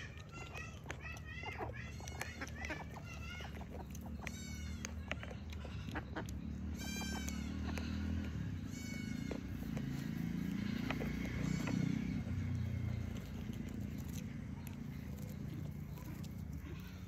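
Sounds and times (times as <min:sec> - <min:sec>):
high-pitched animal calls: 0:00.0 - 0:17.0
low steady rumble: 0:00.0 - 0:17.0.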